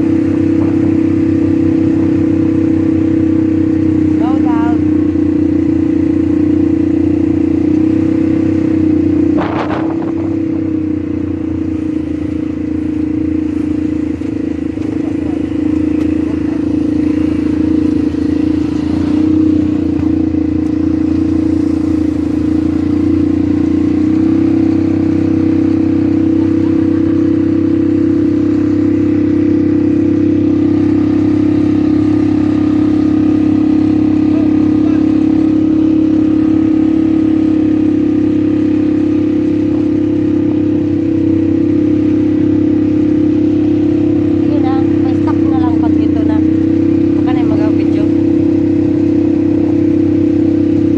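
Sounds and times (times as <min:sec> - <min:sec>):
quad engine running: 0:00.0 - 0:50.9.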